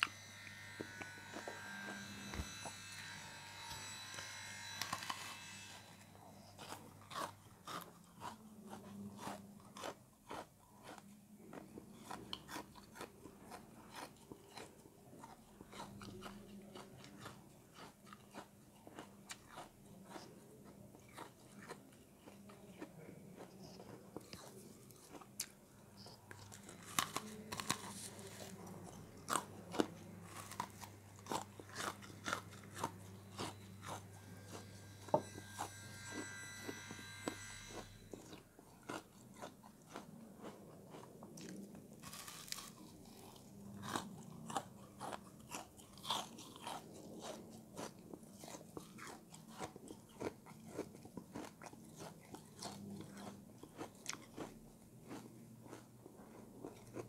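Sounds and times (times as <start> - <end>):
crunchy frozen food chewing: 0.0 - 2.8, 3.6 - 57.0.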